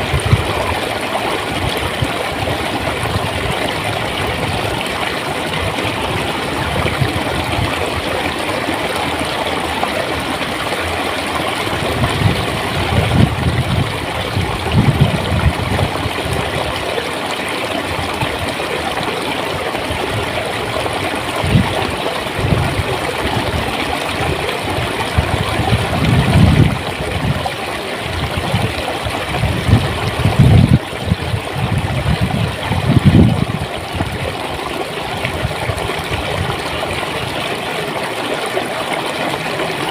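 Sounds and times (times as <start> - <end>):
low water gurgling: 0.0 - 39.9
stream water running: 0.0 - 39.9.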